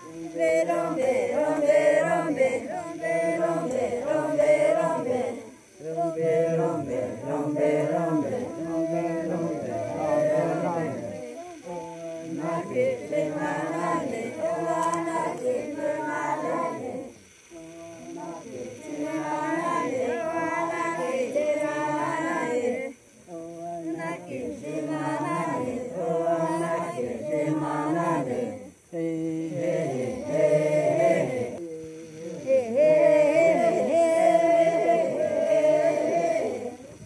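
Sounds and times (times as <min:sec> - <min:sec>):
group singing a chant: 0:00.0 - 0:37.0.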